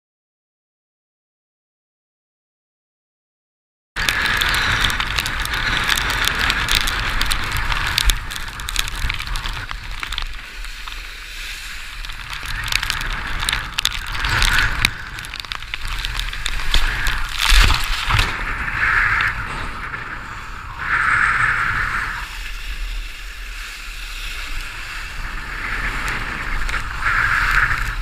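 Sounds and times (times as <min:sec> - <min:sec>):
wind rumble on camera: 0:04.0 - 0:28.0.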